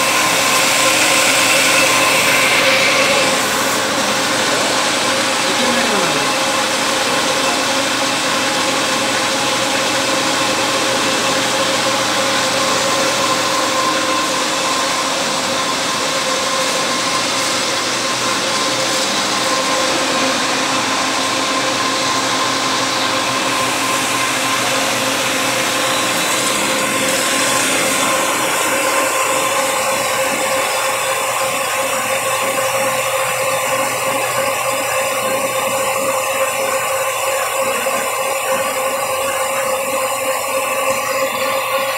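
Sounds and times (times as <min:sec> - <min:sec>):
lathe humming and whining: 0:00.0 - 0:41.9.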